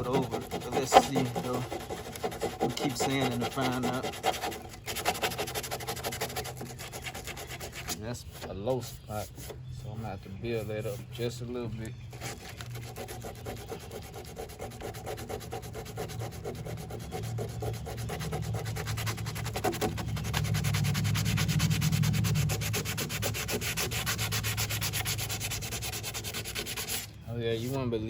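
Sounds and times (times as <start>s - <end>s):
sandpaper scraping by hand: 0.0s - 28.0s.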